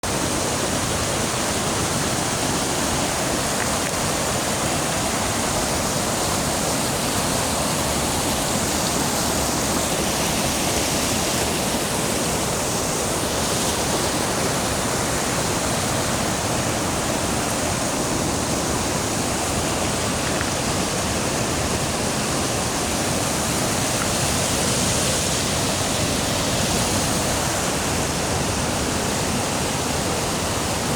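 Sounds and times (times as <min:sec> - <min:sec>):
stream rushing: 0:00.0 - 0:30.9.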